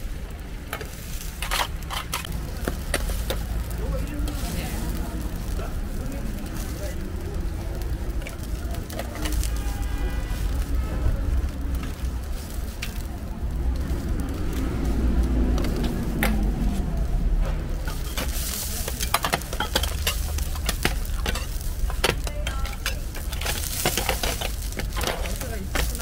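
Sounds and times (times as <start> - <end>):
pancakes sizzling on griddle: 0.0 - 26.0.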